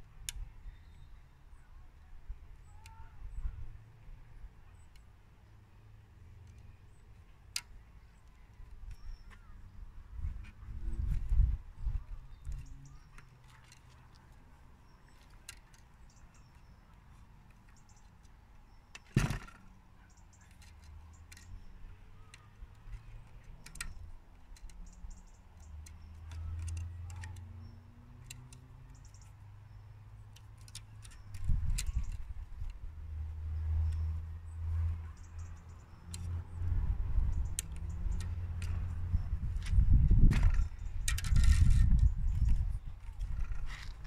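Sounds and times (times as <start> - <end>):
string clicks and ticks: 4.4 - 9.7, 10.4 - 44.0.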